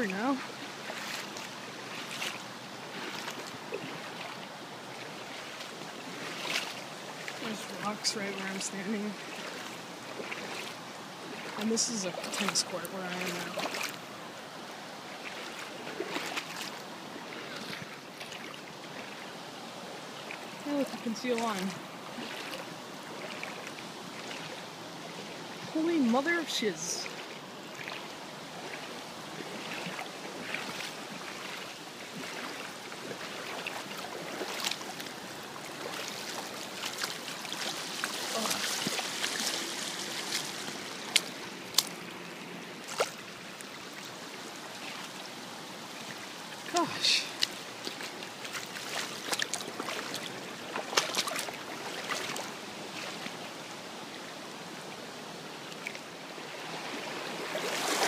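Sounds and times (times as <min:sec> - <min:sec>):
floodwater rushing: 0:00.0 - 0:58.0
water splashes: 0:00.0 - 0:58.0.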